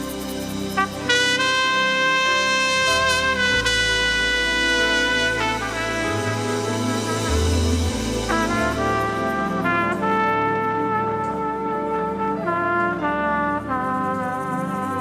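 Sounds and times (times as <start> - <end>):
low bass: 0.0 - 14.8
brass instrument melody: 0.0 - 15.0.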